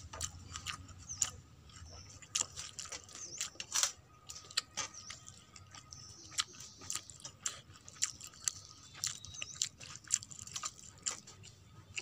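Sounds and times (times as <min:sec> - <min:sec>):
wet eating clicks and smacks: 0:00.0 - 0:12.0.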